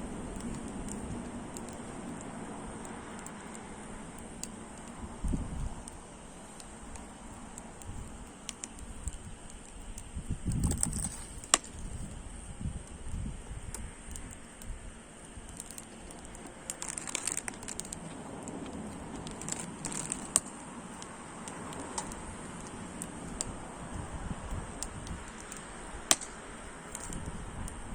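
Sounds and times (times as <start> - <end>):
faint steady hiss: 0.0 - 27.9
wood fire crackling and popping: 0.0 - 27.9.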